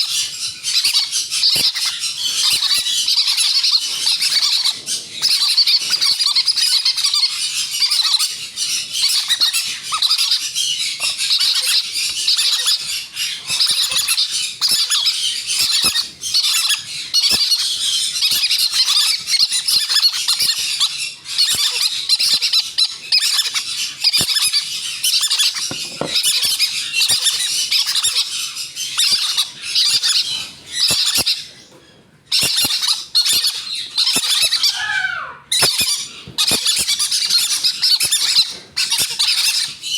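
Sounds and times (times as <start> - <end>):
parrot chicks squawking: 0.0 - 39.9.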